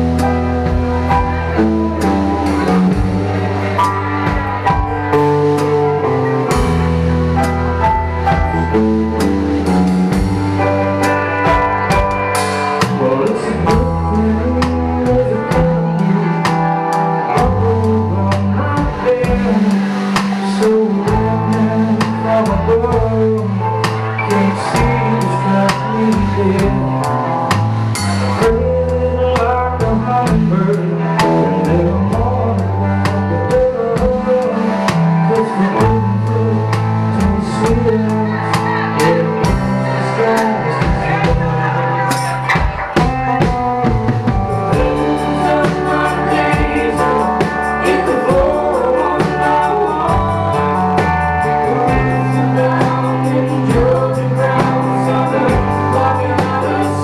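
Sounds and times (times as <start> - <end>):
drum kit with cymbals: 0.0 - 57.0
live band playing: 0.0 - 57.0.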